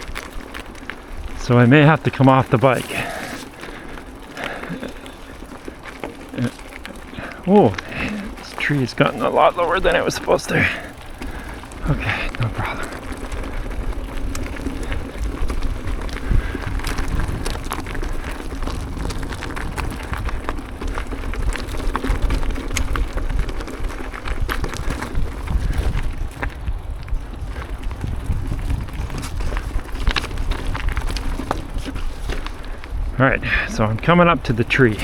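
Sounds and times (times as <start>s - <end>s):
bike clicks and rattles: 0.0s - 35.0s
bike tyres crunching on dirt: 0.0s - 35.0s
wind rumble on microphone: 0.0s - 35.0s.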